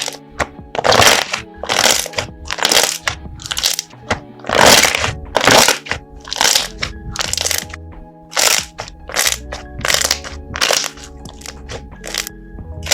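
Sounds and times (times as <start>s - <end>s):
crunchy slime crackling: 0.0s - 0.2s, 0.8s - 12.9s
background music: 0.0s - 12.9s.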